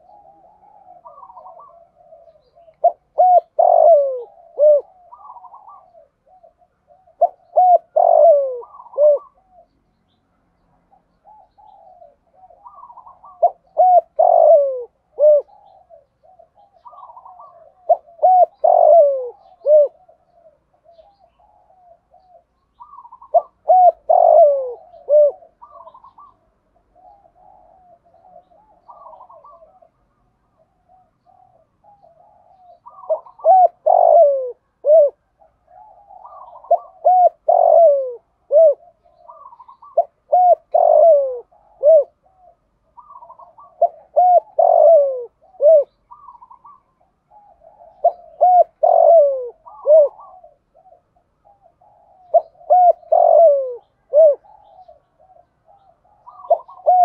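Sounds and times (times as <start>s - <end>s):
dove cooing: 0.0s - 9.8s, 10.9s - 57.0s.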